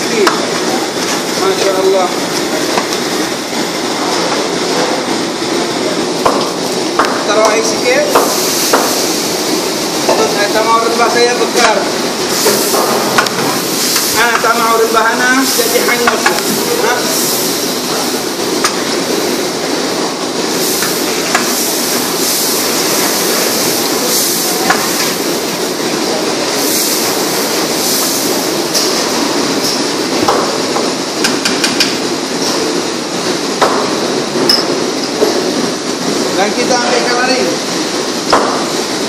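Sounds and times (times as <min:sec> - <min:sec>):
stew sizzling and bubbling: 0:00.0 - 0:39.0.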